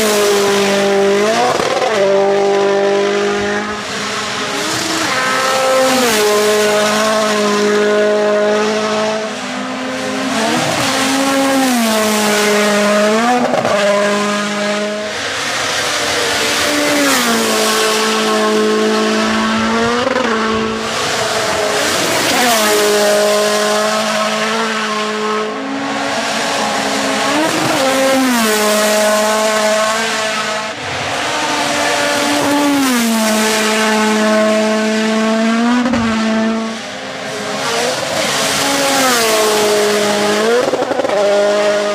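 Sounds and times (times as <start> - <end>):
rally car engines revving past: 0.0 - 41.9.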